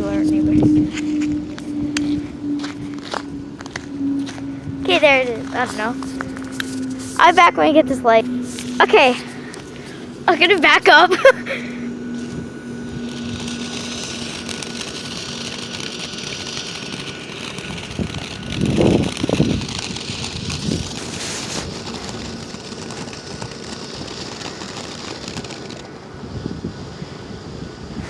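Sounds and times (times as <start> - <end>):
low rumble: 0.0 - 22.6
firework hissing: 0.0 - 28.0.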